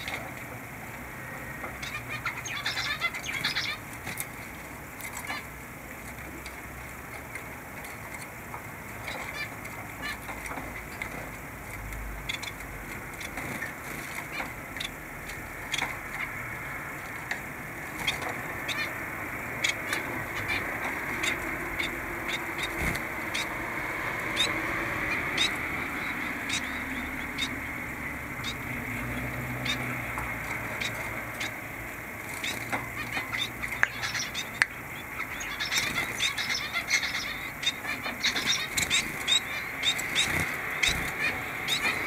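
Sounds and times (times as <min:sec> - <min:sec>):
finches chirping: 0:01.2 - 0:05.5, 0:12.2 - 0:42.0.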